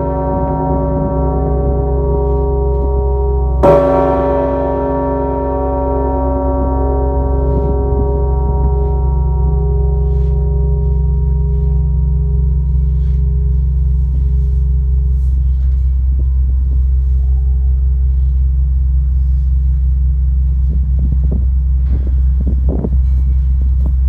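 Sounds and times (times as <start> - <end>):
large bell ringing: 0.0 - 24.0
loud steady low rumble: 0.0 - 24.0.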